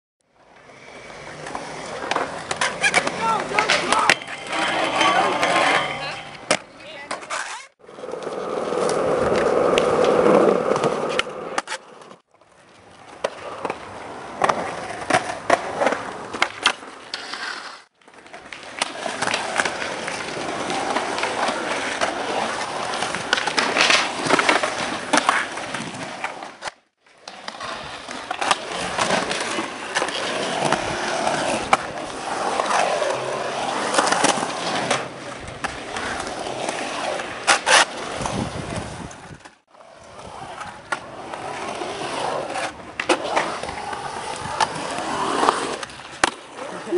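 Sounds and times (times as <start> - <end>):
skateboard wheels rolling on concrete: 0.3 - 46.9
skateboard clacking on ground: 0.5 - 17.4, 18.0 - 46.9.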